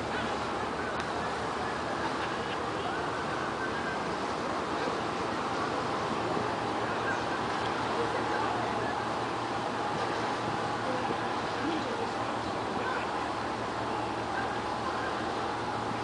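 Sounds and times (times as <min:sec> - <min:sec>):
murmur of distant voices: 0:00.0 - 0:16.0
sea water washing: 0:00.0 - 0:16.0
wind: 0:00.0 - 0:16.0.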